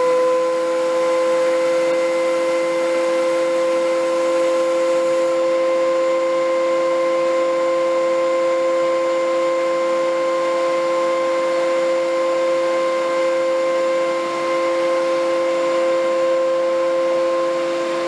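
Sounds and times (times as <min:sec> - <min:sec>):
woodworking machine motor whining: 0:00.0 - 0:18.0.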